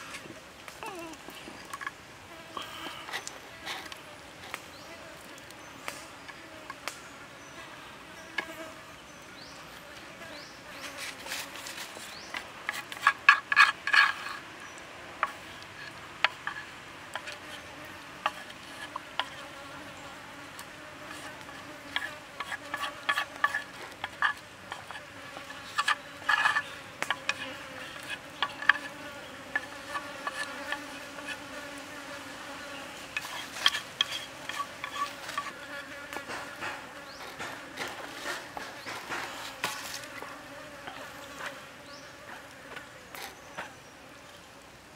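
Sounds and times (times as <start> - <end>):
insects buzzing: 0.0 - 44.9.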